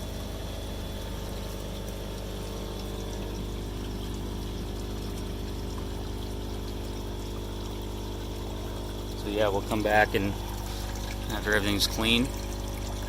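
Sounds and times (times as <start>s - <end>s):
steady hum: 0.0s - 13.0s
water pouring and draining: 0.0s - 13.0s.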